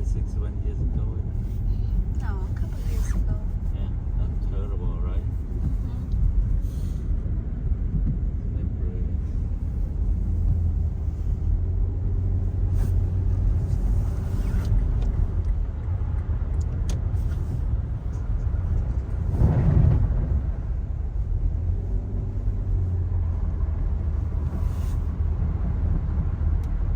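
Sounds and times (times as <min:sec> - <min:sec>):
car engine and tyres rumbling: 0:00.0 - 0:26.9.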